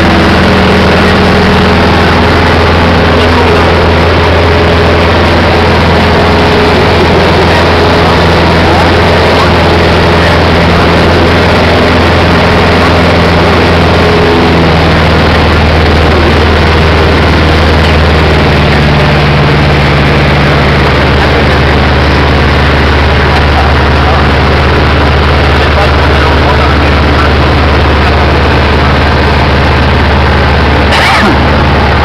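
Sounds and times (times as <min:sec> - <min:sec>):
light aircraft engine drone: 0:00.0 - 0:32.0.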